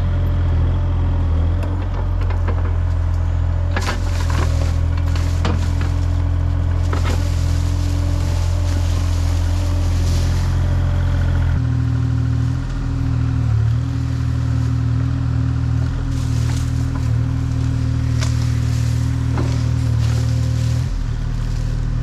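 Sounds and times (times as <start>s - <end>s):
large engine running: 0.0s - 22.0s.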